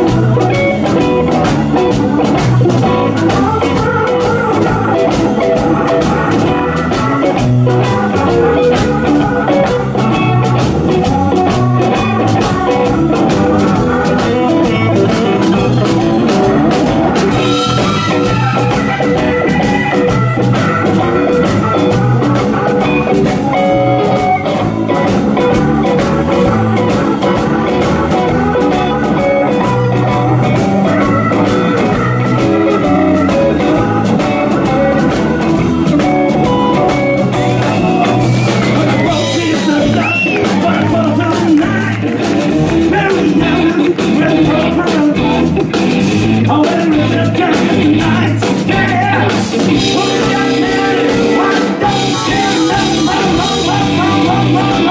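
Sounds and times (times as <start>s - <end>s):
blues-rock band playing: 0.0s - 54.9s.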